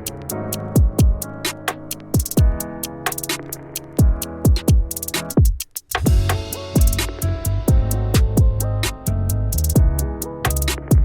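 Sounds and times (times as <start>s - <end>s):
electronic pop music: 0.0s - 11.0s.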